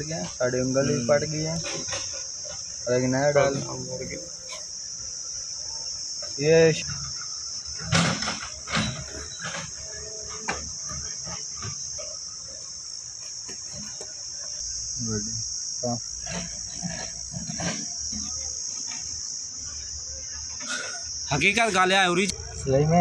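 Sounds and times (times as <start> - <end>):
high insect chirring: 0.0 - 23.0.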